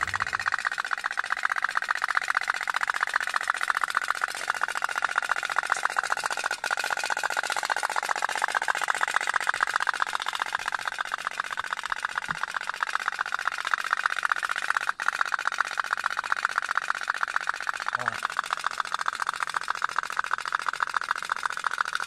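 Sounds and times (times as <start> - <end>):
toy steam boat putt-putt: 0.0 - 22.0.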